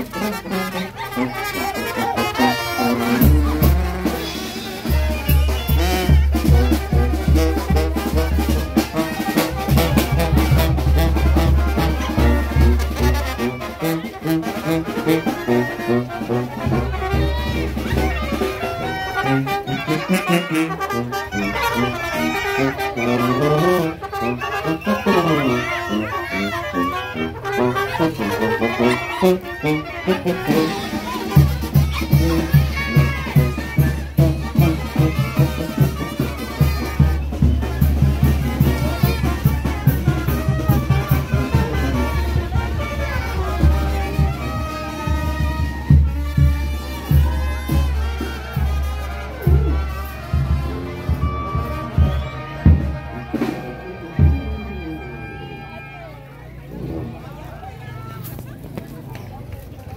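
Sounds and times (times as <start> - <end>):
brass band playing lively tune: 0.0 - 59.9.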